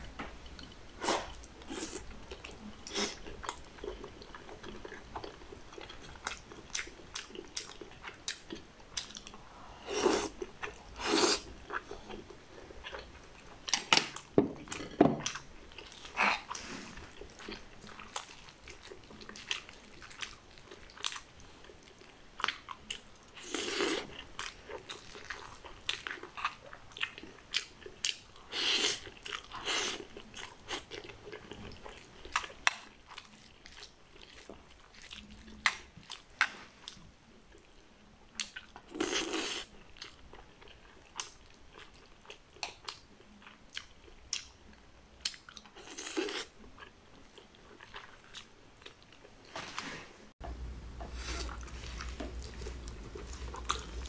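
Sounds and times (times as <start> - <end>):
person chewing food: 0.2 - 49.8, 50.4 - 54.0.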